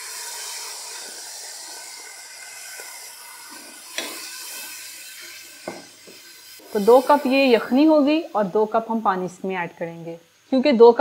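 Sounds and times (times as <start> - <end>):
stock sizzling in hot oil: 0.0 - 10.6.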